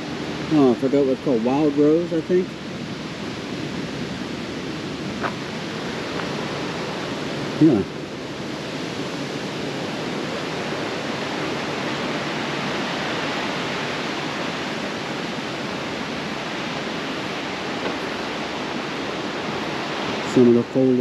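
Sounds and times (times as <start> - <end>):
fast-flowing river rushing: 0.0 - 21.0.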